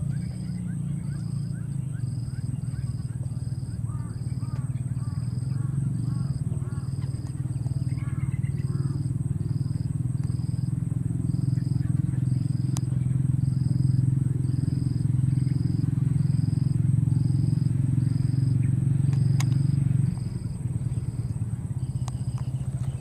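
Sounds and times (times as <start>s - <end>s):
low engine-like hum: 0.0s - 23.0s.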